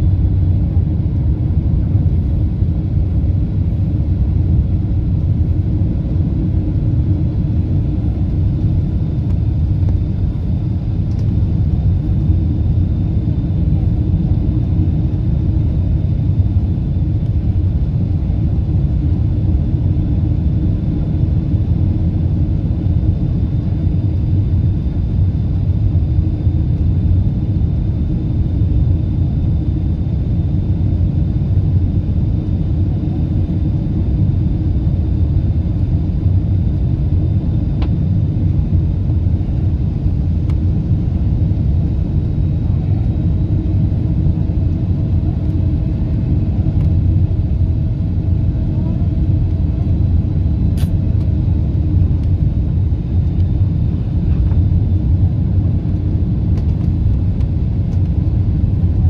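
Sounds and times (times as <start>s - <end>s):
airliner cabin rumble: 0.0s - 59.0s.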